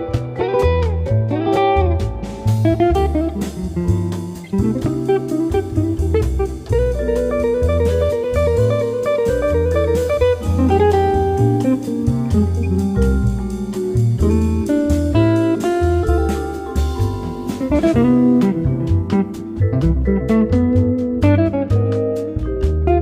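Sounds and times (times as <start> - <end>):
guitar-led instrumental music: 0.0 - 23.0.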